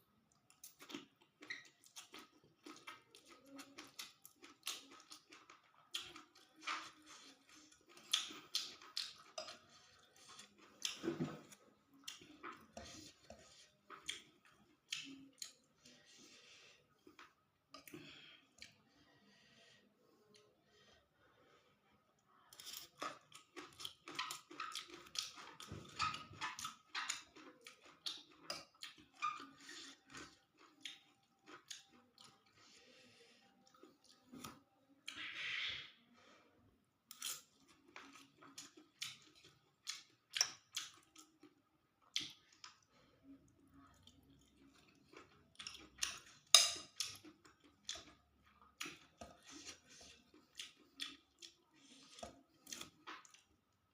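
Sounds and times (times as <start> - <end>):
person chewing food: 0.2 - 19.4, 22.1 - 35.3, 36.9 - 53.9.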